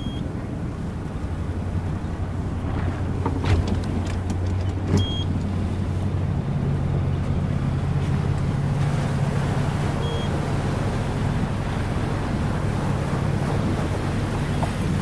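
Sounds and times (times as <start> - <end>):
boat engine running: 0.0 - 15.0
water and wind noise: 0.0 - 15.0.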